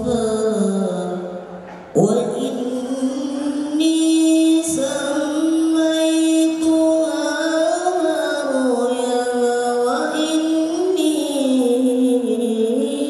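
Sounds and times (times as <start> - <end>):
man chanting into a microphone: 0.0 - 13.0.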